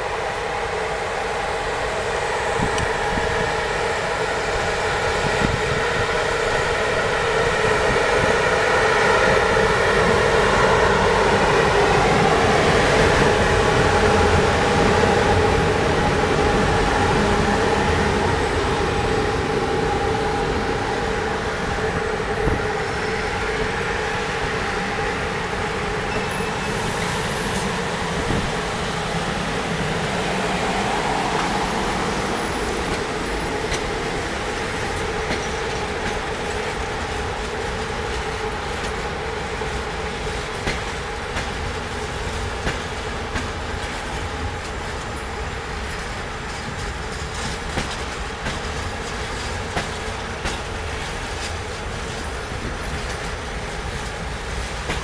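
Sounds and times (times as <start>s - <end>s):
train passing by: 0.0s - 55.0s.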